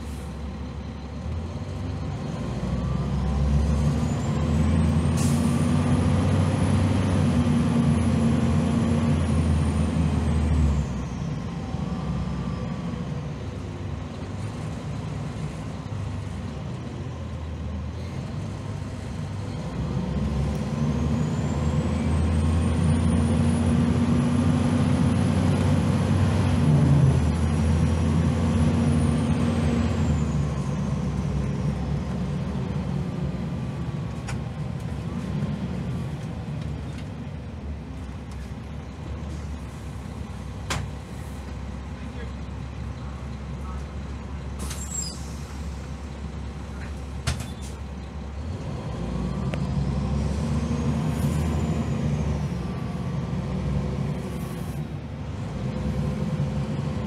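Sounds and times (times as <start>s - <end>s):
bus engine whine: 0.0s - 57.0s.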